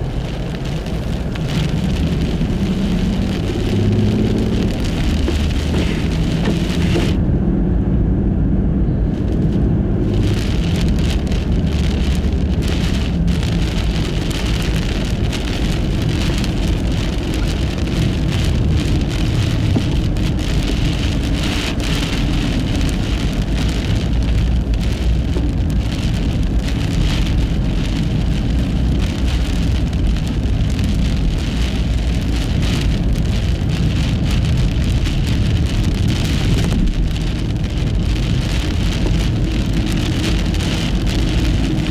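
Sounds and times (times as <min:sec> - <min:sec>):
tyre and road noise: 0:00.0 - 0:41.9.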